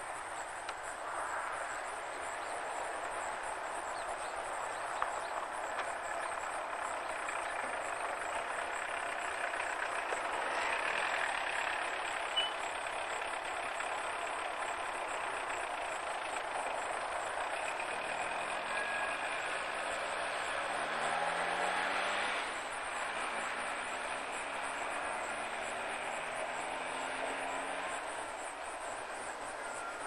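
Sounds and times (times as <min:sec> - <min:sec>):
distant freight train drone: 0:00.0 - 0:30.0.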